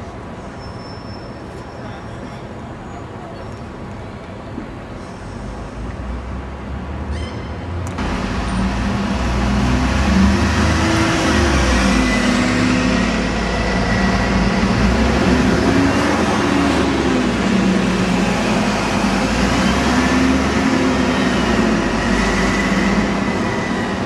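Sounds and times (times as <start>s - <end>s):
street traffic noise: 0.0s - 24.0s
bus engine driving past: 4.6s - 24.0s.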